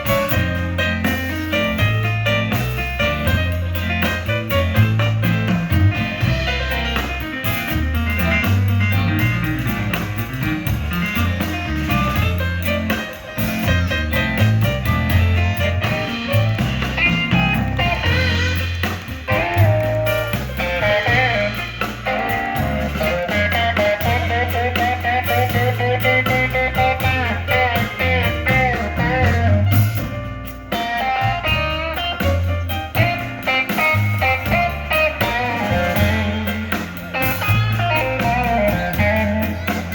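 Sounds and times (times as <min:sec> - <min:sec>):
bass line: 0:00.0 - 0:39.9
blues lead guitar: 0:00.0 - 0:39.9
drums: 0:00.0 - 0:39.9.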